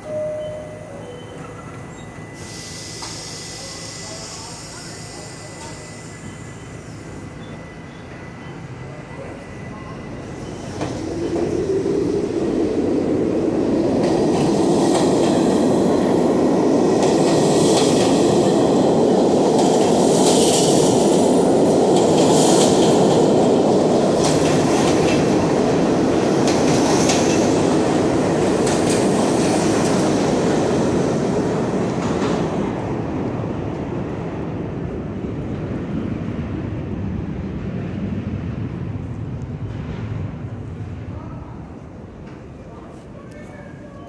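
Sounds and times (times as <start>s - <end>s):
subway train wheels rumbling on rail: 0.0s - 44.0s.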